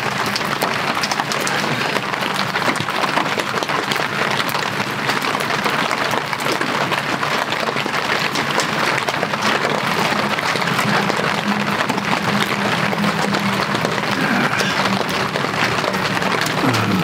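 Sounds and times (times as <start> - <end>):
heavy rain on tent fabric: 0.0 - 17.0.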